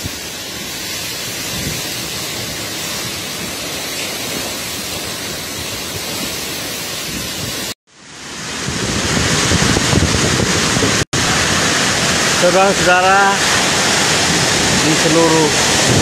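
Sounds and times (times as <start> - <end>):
strong wind buffeting microphone: 0.0 - 7.8, 8.4 - 12.8, 13.4 - 16.0.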